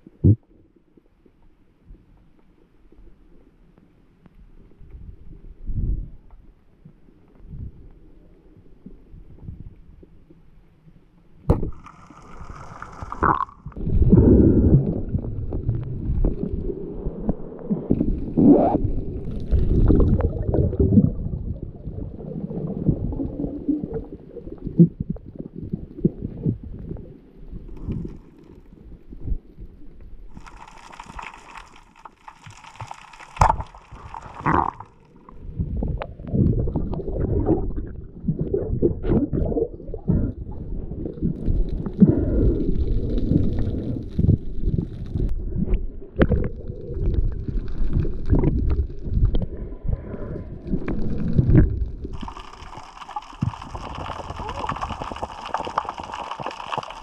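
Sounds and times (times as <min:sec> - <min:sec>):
underwater rumble and gurgling: 0:00.0 - 0:57.0.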